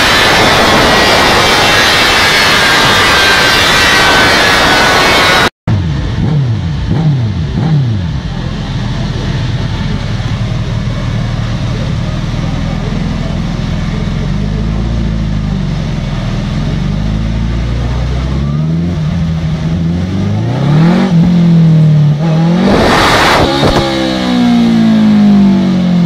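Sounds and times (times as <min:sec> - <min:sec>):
loud rush of noise: 0:00.0 - 0:26.0
motorcycle engine revving: 0:00.0 - 0:26.0.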